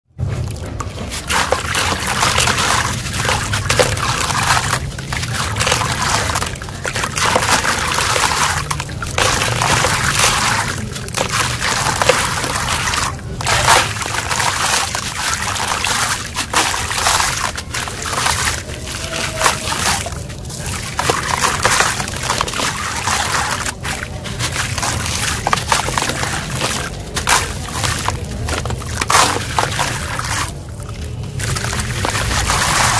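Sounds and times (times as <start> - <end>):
grit trickling into water: 0.2 - 32.9.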